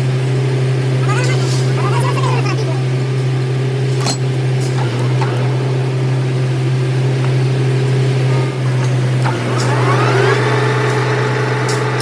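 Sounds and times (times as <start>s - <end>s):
lathe motor hum: 0.0s - 12.0s
rising machine whine: 0.0s - 12.0s.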